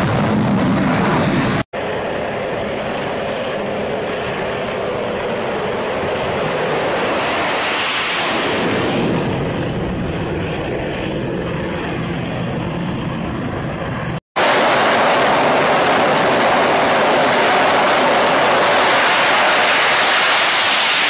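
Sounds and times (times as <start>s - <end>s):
jet engine roaring: 0.0s - 21.0s.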